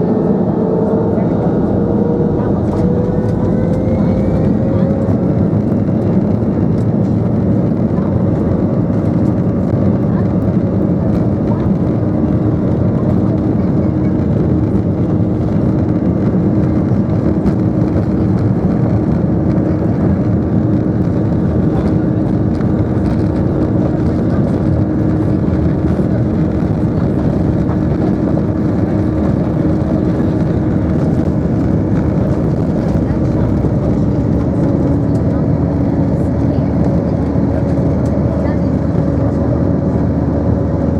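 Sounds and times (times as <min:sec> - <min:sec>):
jet engines rumbling in cabin: 0:00.0 - 0:40.9.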